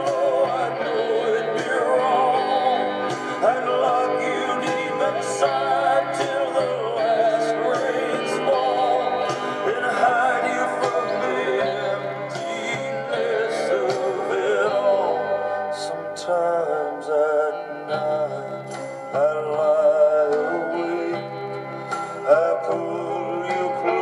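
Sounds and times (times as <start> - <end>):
instrumental backing music: 0.0 - 24.0
man singing a ballad with vibrato: 0.0 - 24.0.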